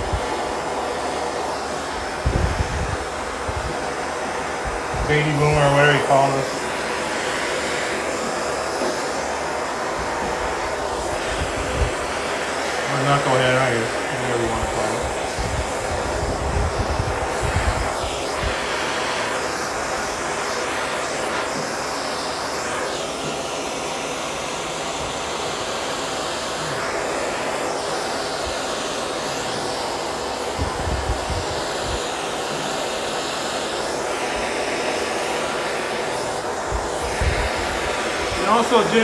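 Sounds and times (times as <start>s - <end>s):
gas torch flame hissing: 0.0s - 39.0s.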